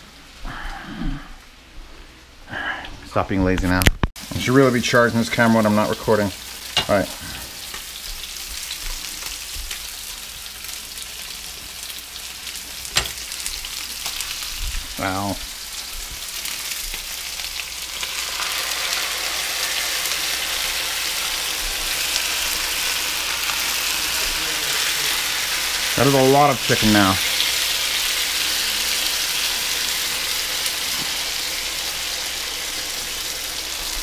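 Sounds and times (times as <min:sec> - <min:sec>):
food sizzling in a pan: 0:04.2 - 0:34.0.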